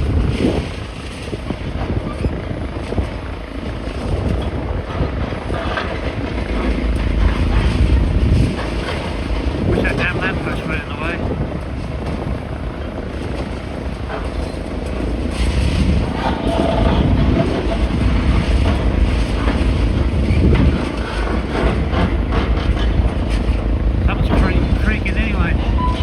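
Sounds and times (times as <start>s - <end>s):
vehicle engine low rumble: 0.0s - 26.0s.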